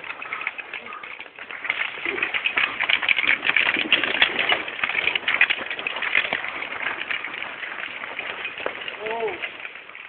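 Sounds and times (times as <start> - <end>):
dry leaves and twigs crackling: 0.0 - 10.0.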